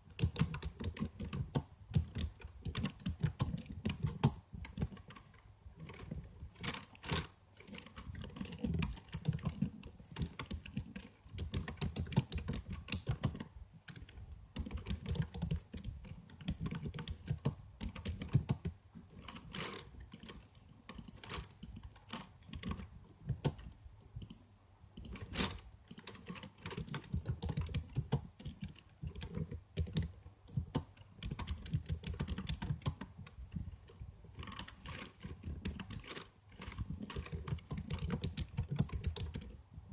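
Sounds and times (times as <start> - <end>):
computer keyboard typing: 0.0 - 24.4, 25.0 - 39.6.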